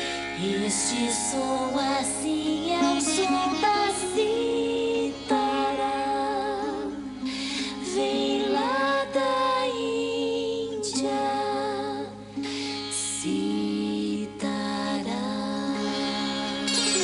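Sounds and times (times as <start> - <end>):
sitar playing slow melody: 0.0 - 17.0.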